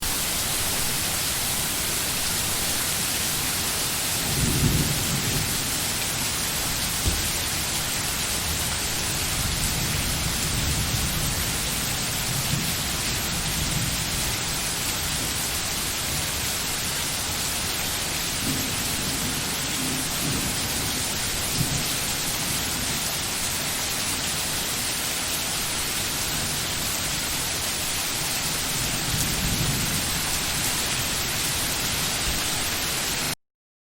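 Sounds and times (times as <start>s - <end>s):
heavy rain: 0.0s - 33.4s.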